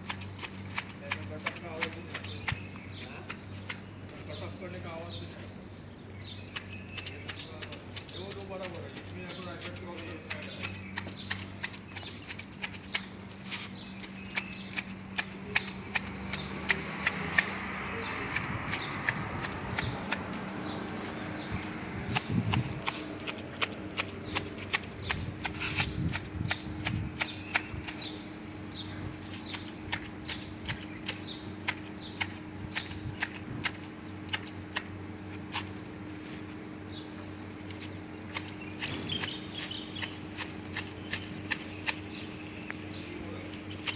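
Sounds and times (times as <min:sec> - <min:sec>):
pruning shears snipping branches: 0:00.0 - 0:05.6, 0:06.3 - 0:43.9.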